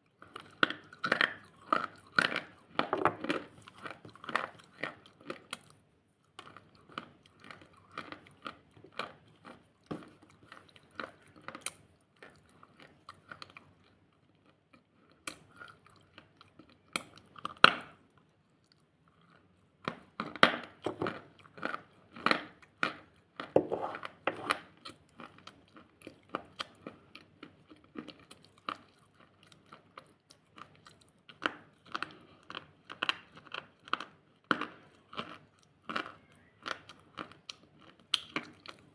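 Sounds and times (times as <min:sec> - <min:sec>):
person chewing something crunchy: 0:00.0 - 0:38.9.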